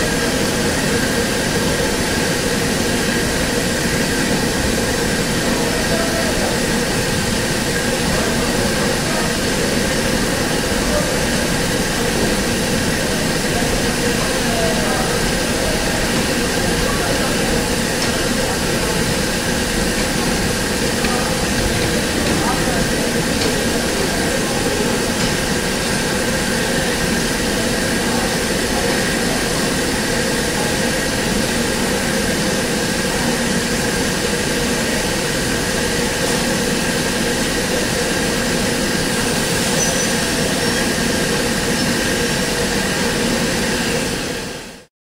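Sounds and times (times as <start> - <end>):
train machinery drone: 0.0 - 44.9.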